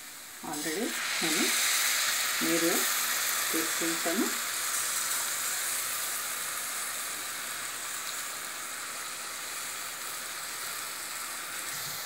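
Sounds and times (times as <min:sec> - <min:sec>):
masala sizzling in a hot pan: 0:00.0 - 0:12.0.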